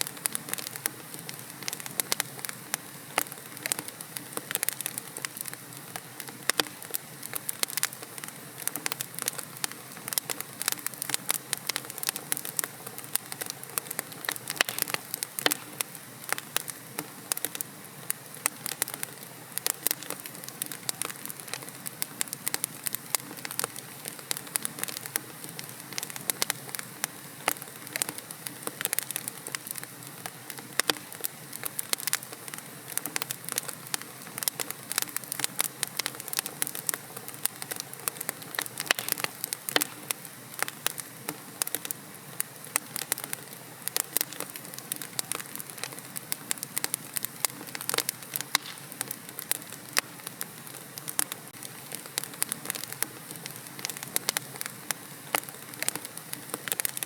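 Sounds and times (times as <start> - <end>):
logs burning in fireplace: 0.0 - 57.0.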